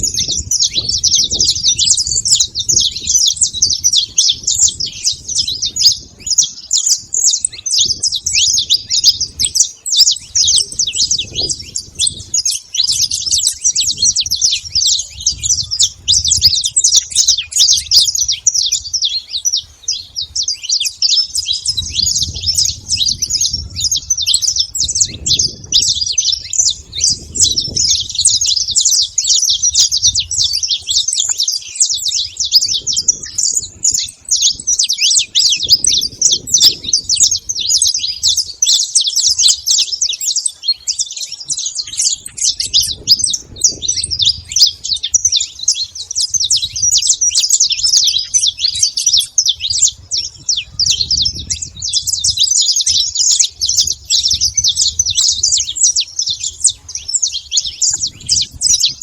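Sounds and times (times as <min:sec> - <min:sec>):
finches chirping in chorus: 0:00.0 - 0:59.0.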